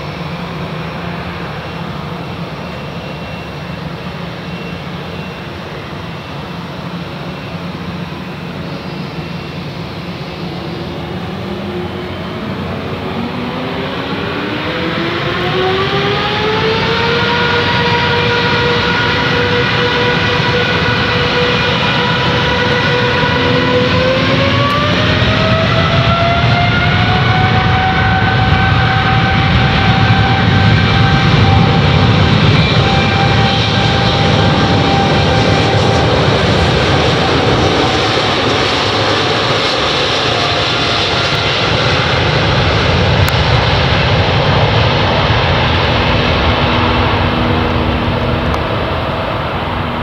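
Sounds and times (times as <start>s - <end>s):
jet engine rumble: 0.0s - 50.0s
jet engine whine: 0.0s - 50.0s.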